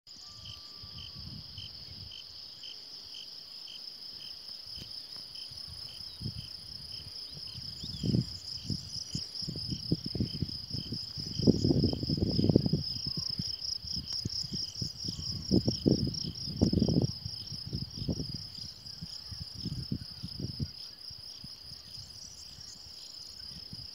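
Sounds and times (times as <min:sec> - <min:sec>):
crickets trilling: 0:00.1 - 0:23.9.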